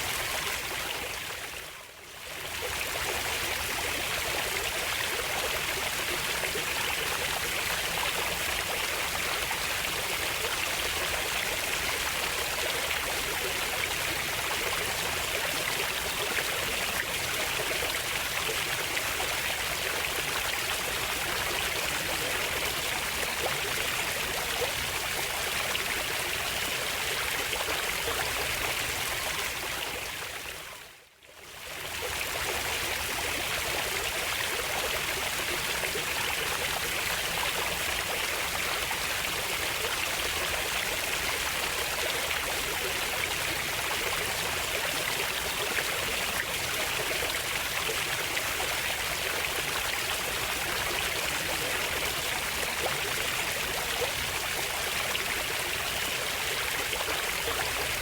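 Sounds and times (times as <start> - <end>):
stream of running water: 0.0 - 58.0.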